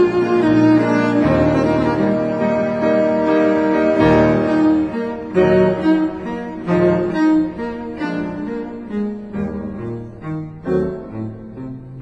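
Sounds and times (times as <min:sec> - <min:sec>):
low bowed string melody: 0:00.0 - 0:12.0.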